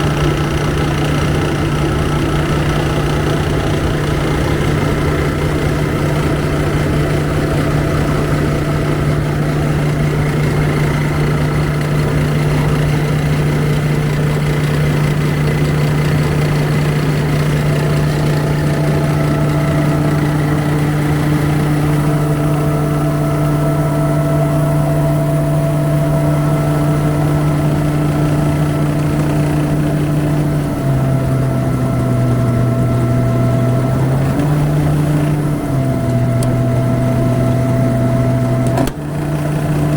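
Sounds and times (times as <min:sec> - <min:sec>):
rice huller humming: 0:00.0 - 0:39.9.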